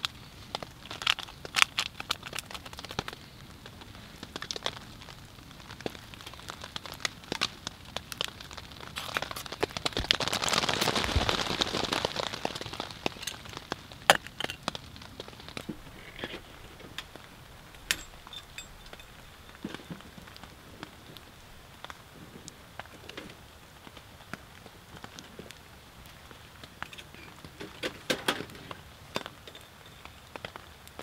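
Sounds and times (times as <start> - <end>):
wood stove crackles: 0.0 - 31.0.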